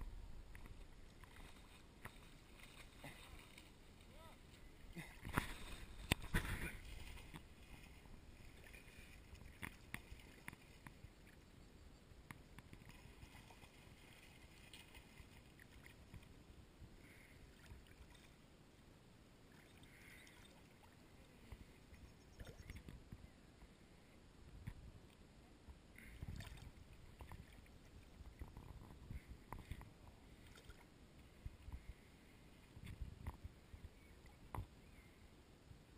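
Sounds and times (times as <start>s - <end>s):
river water lapping and splashing: 0.0s - 23.1s, 25.9s - 34.8s
water rippling: 0.0s - 35.2s.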